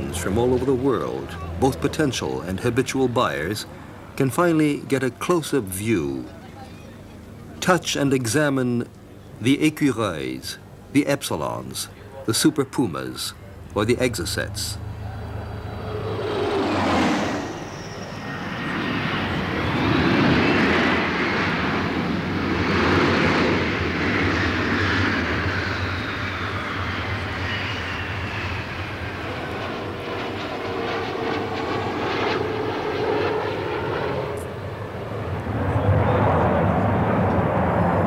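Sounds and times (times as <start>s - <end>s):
aircraft engines whining: 0.0s - 38.0s.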